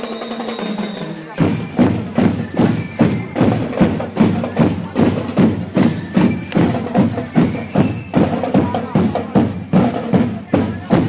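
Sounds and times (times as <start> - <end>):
bell-lyre notes: 0.0 - 11.0
marching drums beating: 0.0 - 11.0.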